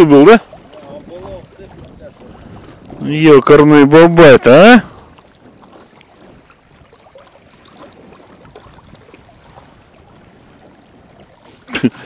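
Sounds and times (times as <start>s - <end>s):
small waves lapping on rocks: 0.0s - 12.0s.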